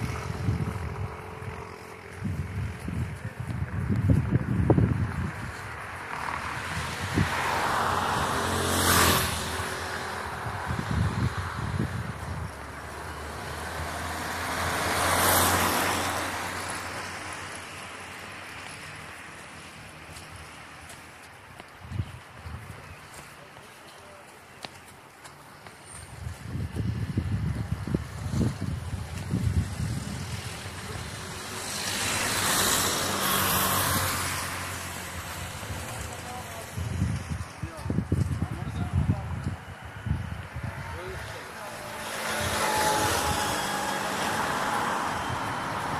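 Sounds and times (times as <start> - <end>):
van driving past: 0.0 - 20.8, 27.3 - 45.9
car passing: 0.0 - 45.9
vehicle engine rumbling: 0.0 - 45.9.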